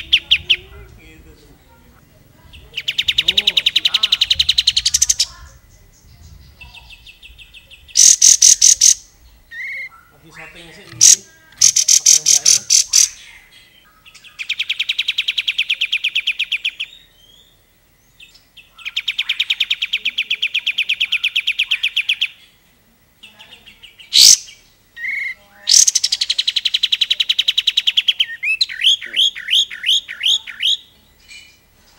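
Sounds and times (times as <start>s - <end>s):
bulbul singing: 0.0s - 31.9s.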